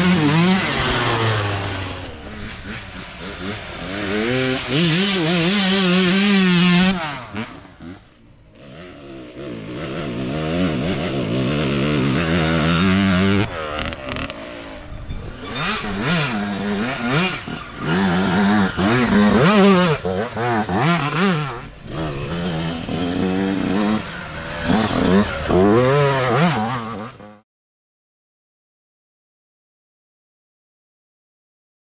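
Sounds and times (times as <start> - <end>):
dirt bike engines revving: 0.0 - 27.4.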